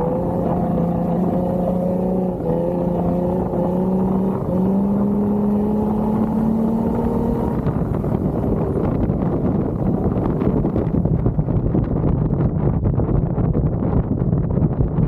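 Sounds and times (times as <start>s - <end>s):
car engine running under load: 0.0s - 12.6s.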